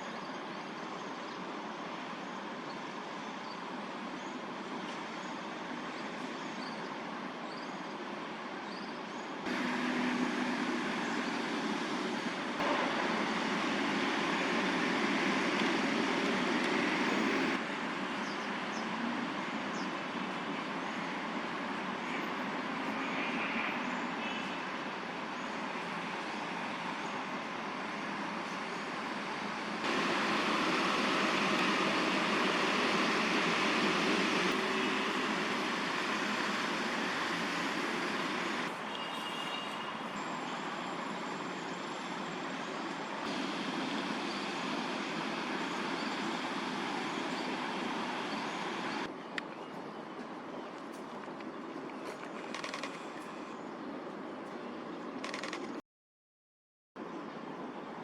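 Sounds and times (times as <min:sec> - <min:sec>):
city traffic hum: 0:00.0 - 0:55.8, 0:57.0 - 0:58.0.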